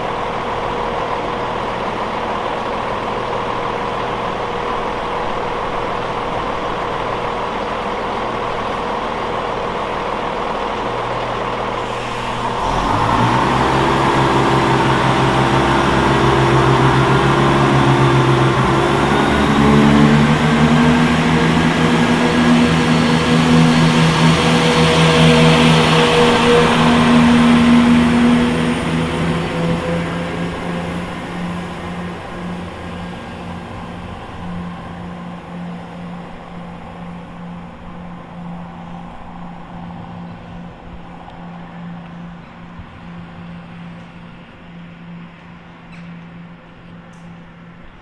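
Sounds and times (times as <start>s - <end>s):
diesel train engines droning: 0.0s - 48.0s.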